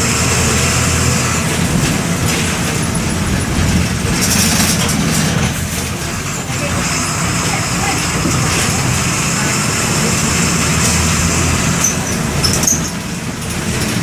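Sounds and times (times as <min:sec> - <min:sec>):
bus diesel engine running: 0:00.0 - 0:14.0.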